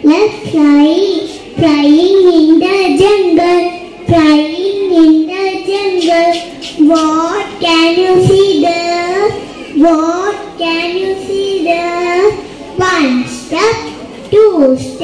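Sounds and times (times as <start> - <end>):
girl singing into microphone: 0.0 - 15.0.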